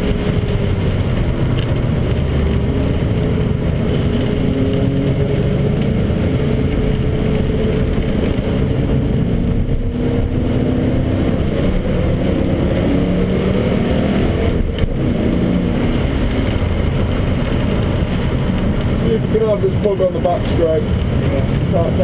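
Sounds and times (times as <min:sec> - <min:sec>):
car engine running hard: 0:00.0 - 0:22.0
road noise: 0:00.0 - 0:22.0.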